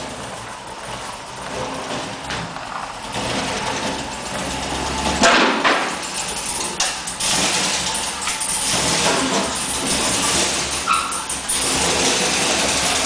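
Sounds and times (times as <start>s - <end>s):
engine knocking: 0.0s - 13.0s
engine running: 0.0s - 13.0s.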